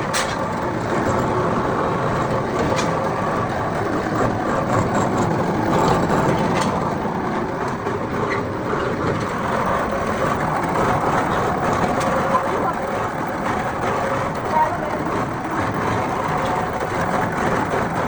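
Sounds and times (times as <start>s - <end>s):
workshop machinery noise: 0.0s - 18.0s.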